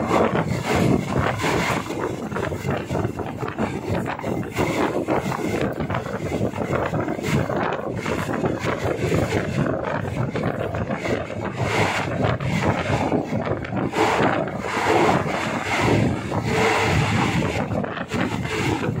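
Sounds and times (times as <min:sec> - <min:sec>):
train carriage rumbling on track: 0:00.0 - 0:19.0
wind rushing past: 0:00.0 - 0:19.0.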